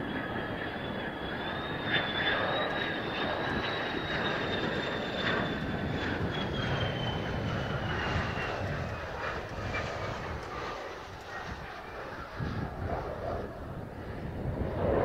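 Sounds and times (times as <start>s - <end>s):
jet engine rumble and hiss: 0.0s - 15.0s.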